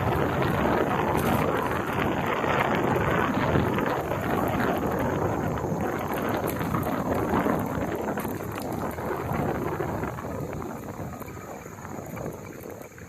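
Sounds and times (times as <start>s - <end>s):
bicycle rattling over rough ground: 0.0s - 13.0s
wind buffeting microphone: 0.0s - 13.0s.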